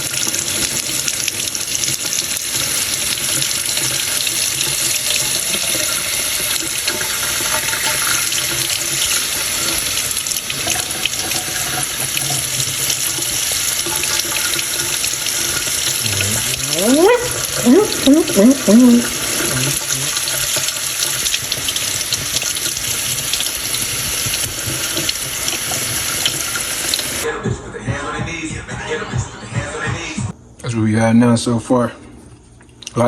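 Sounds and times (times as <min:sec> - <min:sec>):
tap water running into sink: 0:00.0 - 0:27.3.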